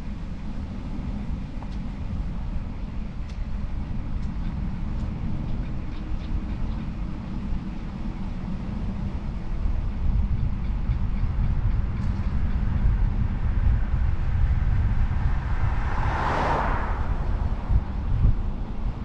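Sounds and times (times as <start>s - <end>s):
bicycle road rumble: 0.0s - 19.0s
wind buffeting microphone: 0.0s - 19.0s.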